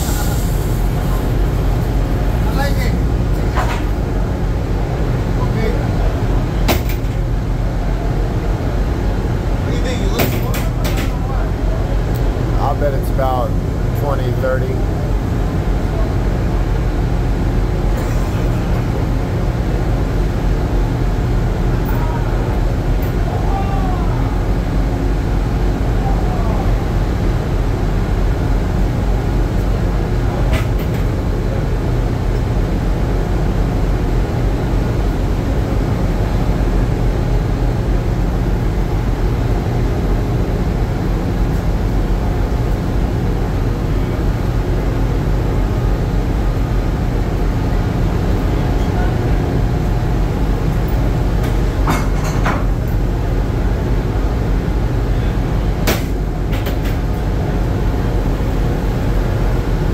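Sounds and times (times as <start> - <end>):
ship engines droning: 0.0 - 59.9.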